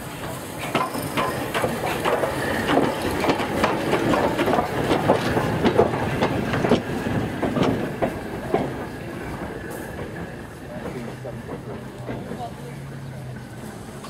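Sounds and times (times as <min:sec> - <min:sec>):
steam locomotive rumble: 0:00.0 - 0:14.0
wheels clicking and knocking: 0:00.0 - 0:14.0.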